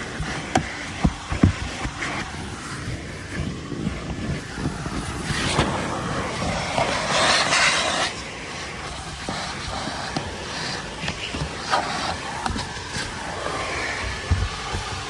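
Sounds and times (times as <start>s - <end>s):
vacuum hose sucking: 0.0s - 15.0s.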